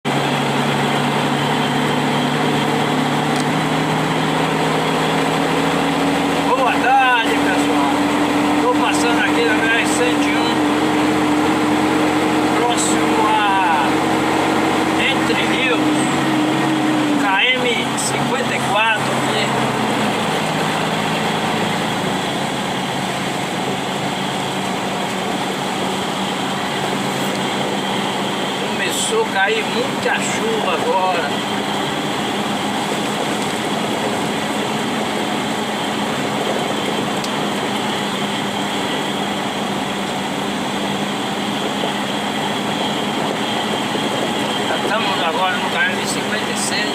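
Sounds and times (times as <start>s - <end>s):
vehicle engine humming: 0.0s - 46.9s
road noise hiss: 0.1s - 46.9s.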